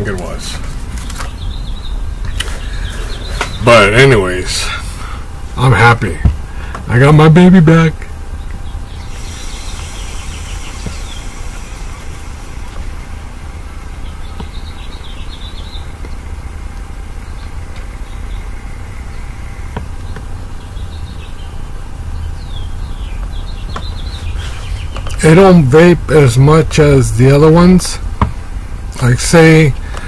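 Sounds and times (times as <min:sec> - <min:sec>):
low rumble: 0:00.0 - 0:27.2
small birds chirping: 0:00.0 - 0:30.0.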